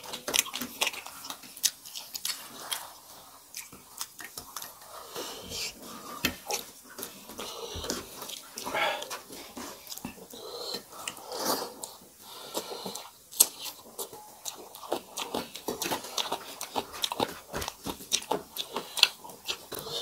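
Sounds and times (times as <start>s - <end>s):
wet chewing and crunching: 0.0s - 20.0s.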